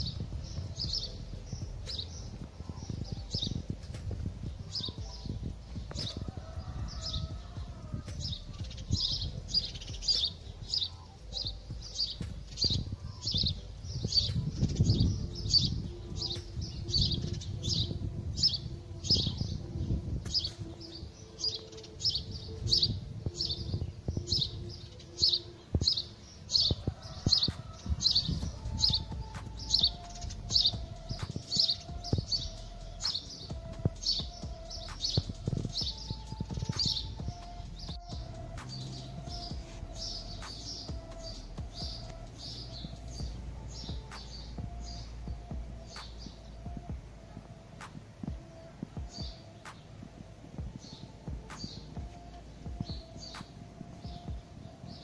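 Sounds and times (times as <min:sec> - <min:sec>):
small bird chirping: 0:00.0 - 0:55.0
wind rumbling on microphone: 0:00.0 - 0:55.0.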